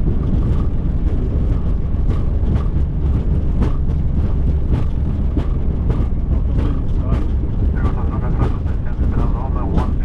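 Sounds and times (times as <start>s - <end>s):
low rumble of airliner rolling: 0.0s - 10.0s.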